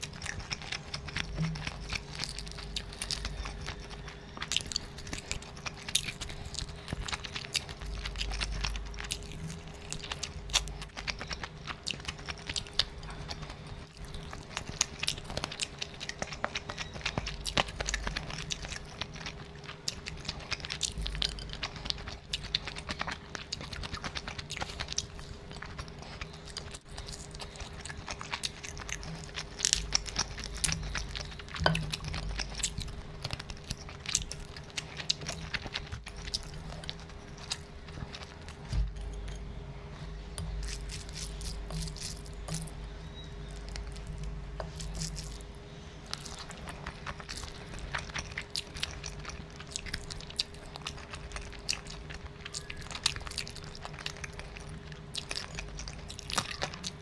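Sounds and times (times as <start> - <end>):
chewing and biting food: 0.0 - 57.0
faint steady hum: 0.0 - 57.0.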